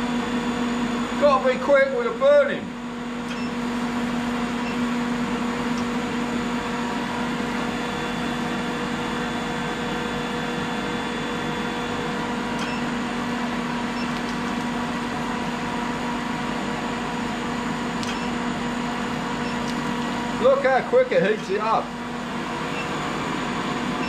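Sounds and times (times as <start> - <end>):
induction heater humming: 0.0 - 24.0.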